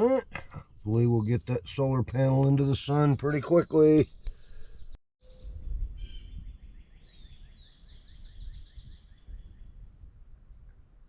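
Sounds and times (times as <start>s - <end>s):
songbird chirping: 0.8s - 10.2s.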